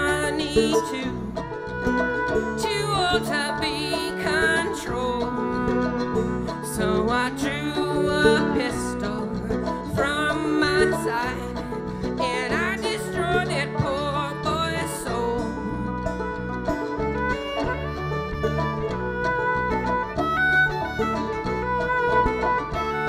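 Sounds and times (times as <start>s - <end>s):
acoustic string band playing bluegrass: 0.0s - 23.0s.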